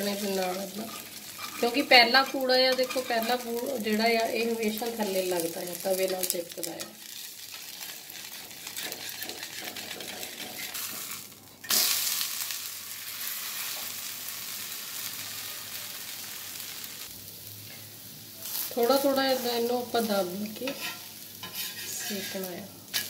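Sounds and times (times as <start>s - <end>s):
pancake sizzling in oil: 0.0s - 23.0s.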